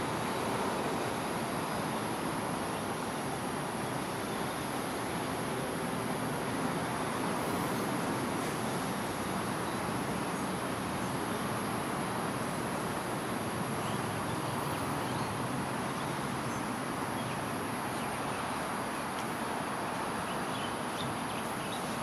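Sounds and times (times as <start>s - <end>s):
distant road traffic hum: 0.0s - 22.0s
high insect drone: 0.0s - 22.0s.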